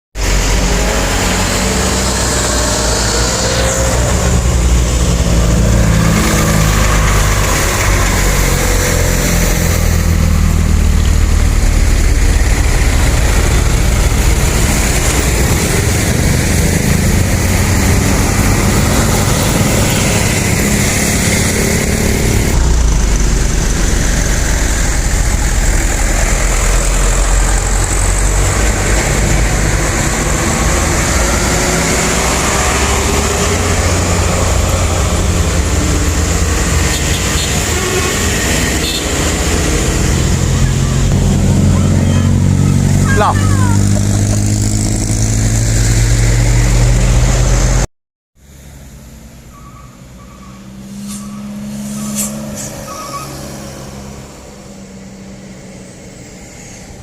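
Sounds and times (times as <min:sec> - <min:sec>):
vehicle engine low rumble: 0:00.2 - 0:57.0.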